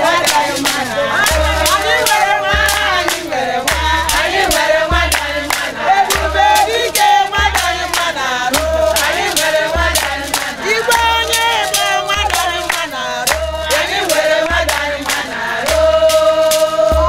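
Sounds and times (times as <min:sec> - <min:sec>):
low thudding beat: 0:00.0 - 0:17.0
rhythmic hand-clapping: 0:00.0 - 0:17.0
women singing call-and-response: 0:00.0 - 0:17.0.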